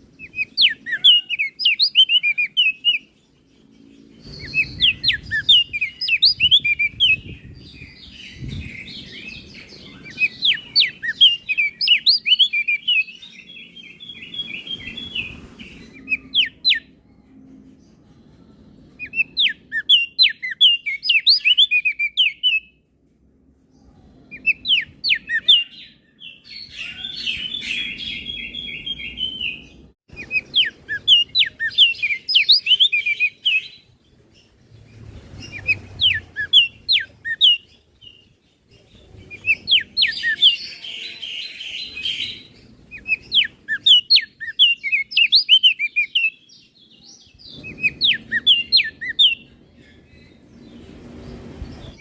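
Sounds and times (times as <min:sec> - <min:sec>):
bird chirping and trilling: 0:00.0 - 0:22.8, 0:23.8 - 0:52.0.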